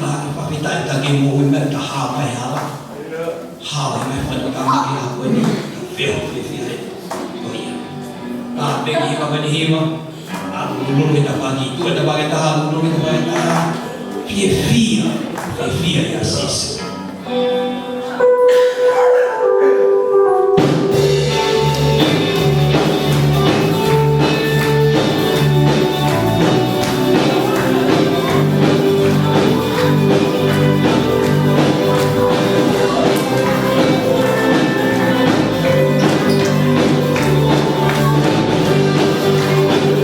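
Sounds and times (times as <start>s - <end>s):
live gospel band playing: 0.0s - 40.0s.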